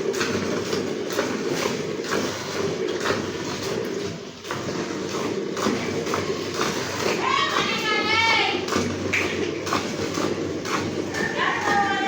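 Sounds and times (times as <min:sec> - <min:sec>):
milk squirting into a pail: 0:00.0 - 0:12.0.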